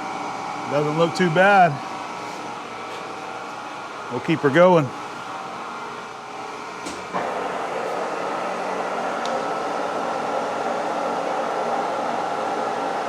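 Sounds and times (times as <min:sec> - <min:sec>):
milling machine running: 0:00.0 - 0:13.0.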